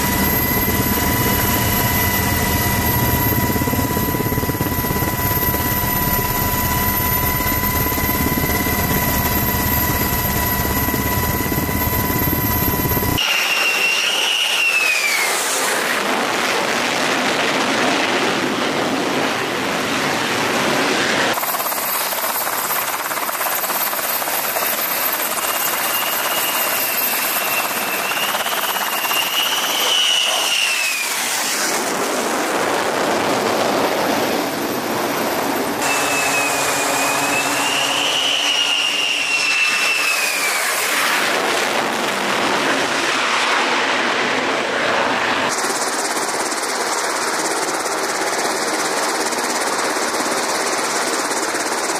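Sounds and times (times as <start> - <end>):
jet engine roar and whine: 0.0 - 51.9.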